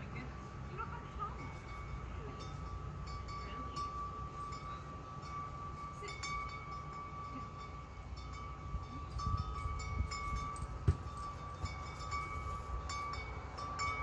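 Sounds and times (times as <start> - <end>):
low steady rumble: 0.0 - 14.0
metal tube wind chime ringing: 0.0 - 14.0.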